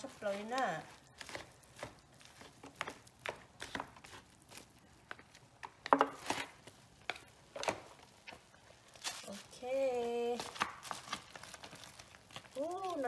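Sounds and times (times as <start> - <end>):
foil crinkling: 0.0 - 13.0.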